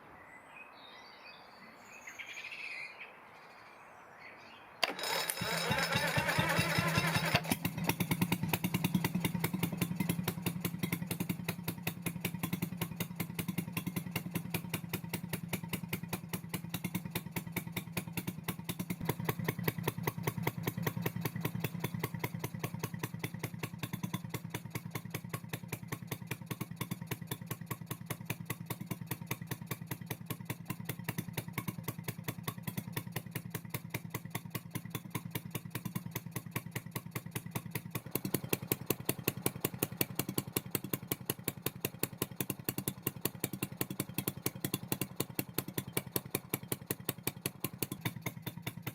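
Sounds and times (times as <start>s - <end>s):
two-stroke marine engine running: 4.8s - 48.9s.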